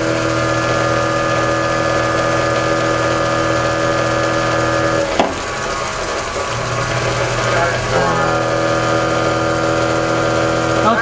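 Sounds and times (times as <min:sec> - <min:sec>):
electric motor whining: 0:00.0 - 0:11.0
machine turning roughly: 0:00.0 - 0:11.0.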